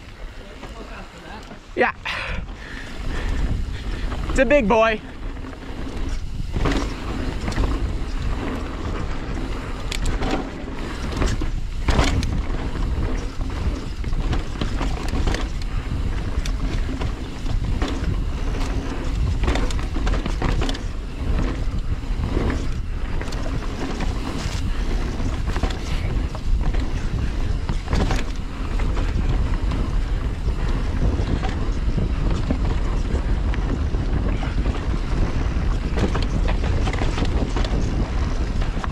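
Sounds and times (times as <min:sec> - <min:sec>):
wind rush on microphone: 0:01.6 - 0:38.9
bike knocking on rocks: 0:05.2 - 0:38.9
tyre rumble on dirt: 0:05.2 - 0:38.9.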